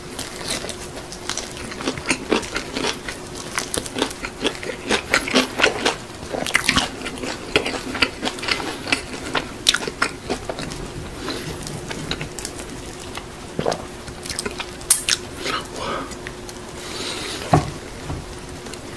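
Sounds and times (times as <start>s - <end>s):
chewing crispy fried chicken: 0.0s - 18.9s.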